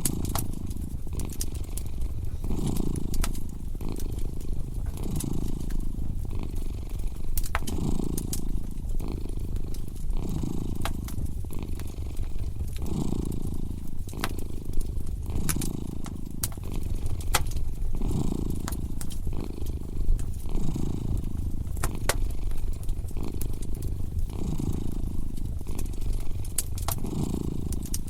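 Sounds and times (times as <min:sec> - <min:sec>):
cat purring: 0:00.0 - 0:28.0
fire crackling and popping: 0:00.0 - 0:28.0.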